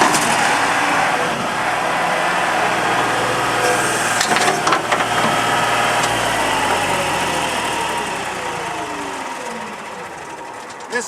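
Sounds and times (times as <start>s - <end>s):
diesel engine running: 0.0s - 11.0s
sharp clatters: 0.0s - 11.0s.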